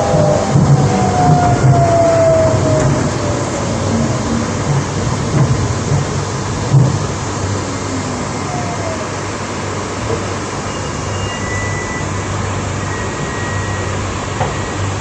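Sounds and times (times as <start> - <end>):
faint high whining tones: 0.0 - 15.0
train car interior rumble: 0.0 - 15.0.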